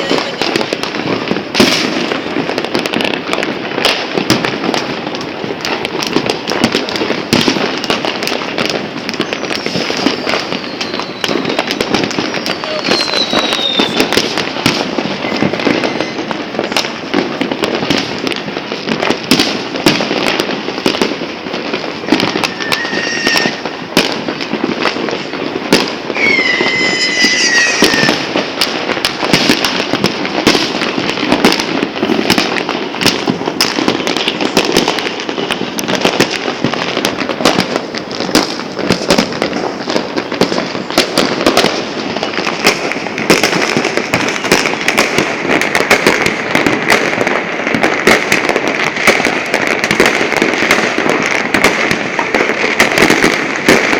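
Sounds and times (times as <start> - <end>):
fireworks and firecrackers bangs: 0.0 - 53.9
whistling fireworks: 0.0 - 53.9.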